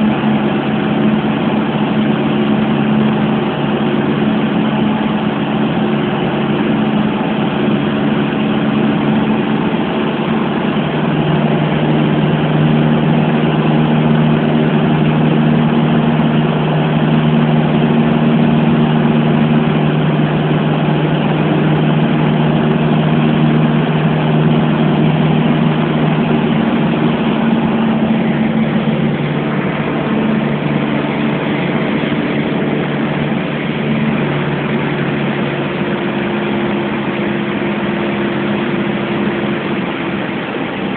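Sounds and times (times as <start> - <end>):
aircraft engine drone: 0.0 - 40.9
rushing air: 0.0 - 40.9.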